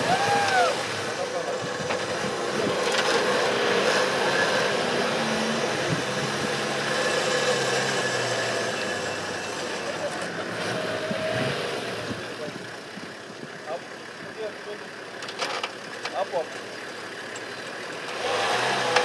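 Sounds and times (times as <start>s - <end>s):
off-road vehicle engine under load: 0.0s - 19.0s.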